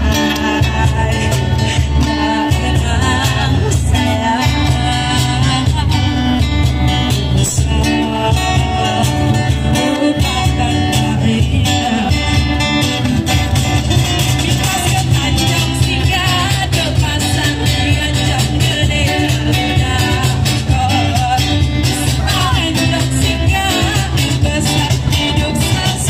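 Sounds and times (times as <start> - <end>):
woman singing into microphone: 0.0 - 6.5, 7.4 - 12.7, 14.0 - 26.0
live guitar band through loudspeaker: 0.0 - 26.0.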